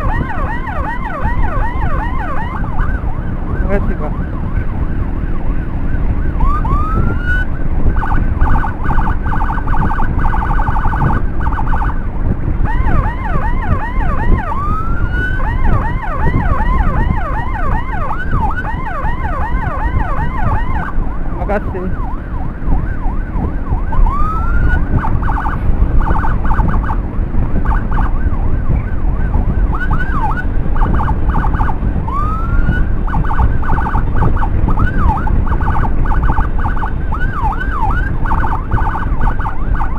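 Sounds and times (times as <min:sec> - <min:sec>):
electronic siren whooping and pulsing: 0:00.0 - 0:39.9
fast siren chirps: 0:00.0 - 0:39.9
motorcycle engine rumble: 0:00.0 - 0:39.9
wind: 0:00.0 - 0:39.9.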